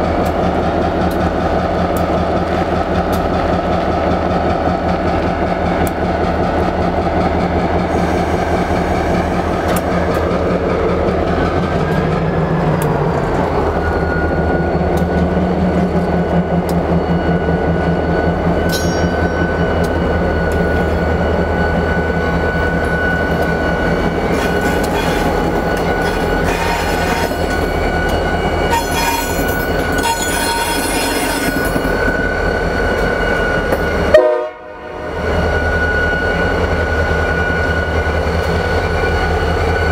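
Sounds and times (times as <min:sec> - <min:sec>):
locomotive engines running: 0:00.0 - 0:34.2.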